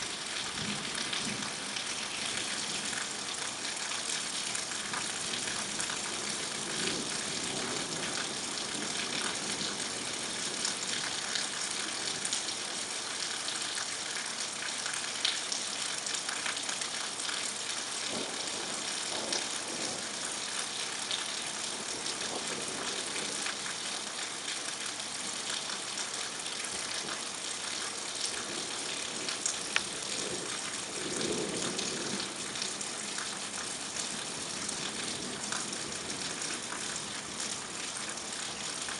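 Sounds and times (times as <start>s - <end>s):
steady rain falling: 0.0s - 38.9s
raindrops tapping close by: 0.1s - 38.9s.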